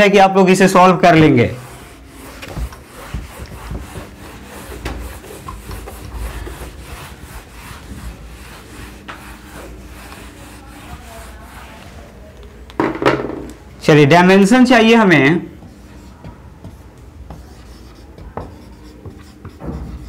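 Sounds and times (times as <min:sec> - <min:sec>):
cloth wiping a whiteboard: 0:00.7 - 0:12.4, 0:14.7 - 0:20.0.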